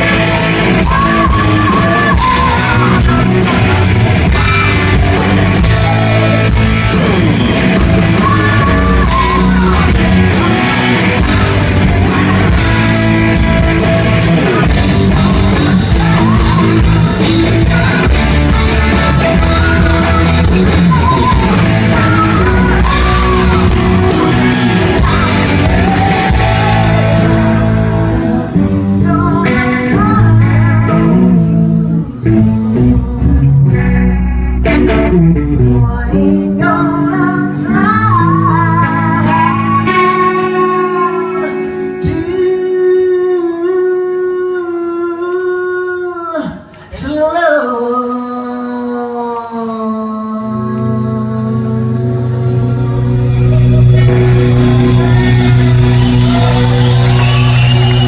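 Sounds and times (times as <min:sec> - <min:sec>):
live rock band playing: 0:00.0 - 0:45.6, 0:50.5 - 0:58.0
woman singing lead: 0:00.0 - 0:58.0.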